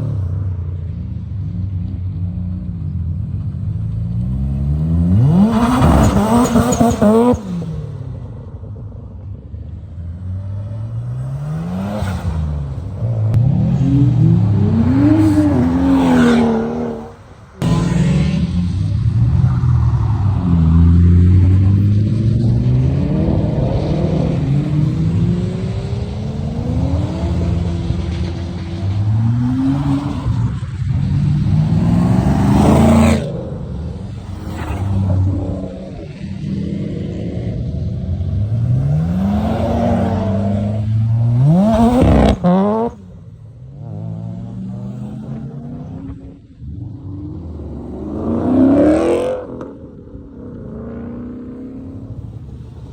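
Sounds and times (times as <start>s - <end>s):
car engine accelerating: 1.3s - 8.8s, 9.8s - 52.9s.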